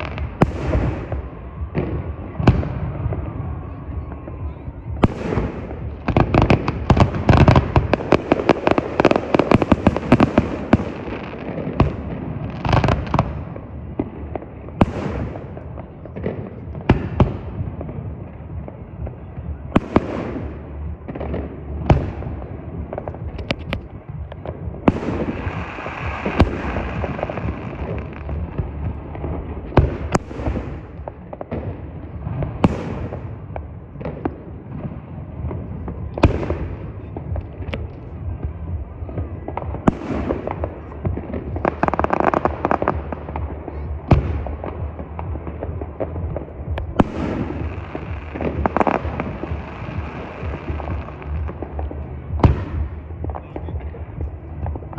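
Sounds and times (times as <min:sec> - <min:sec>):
fireworks bangs: 0:00.0 - 0:54.9
fireworks crackling barrage: 0:00.0 - 0:54.9.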